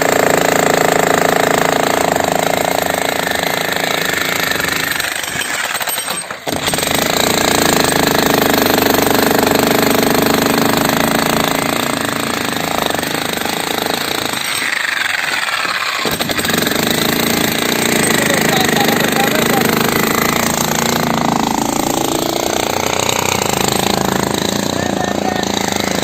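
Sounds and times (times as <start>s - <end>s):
jackhammer rattling: 0.0s - 26.0s.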